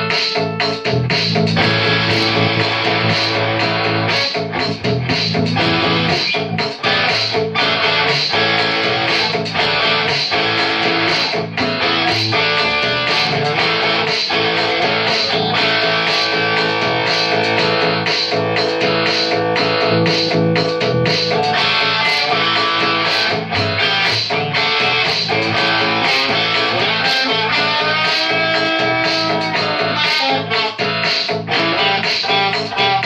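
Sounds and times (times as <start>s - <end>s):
electric guitar playing: 0.0s - 33.0s.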